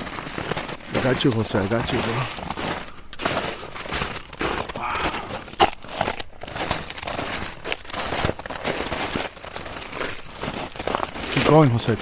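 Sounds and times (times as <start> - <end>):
footsteps crunching leaves and twigs: 0.0 - 12.0.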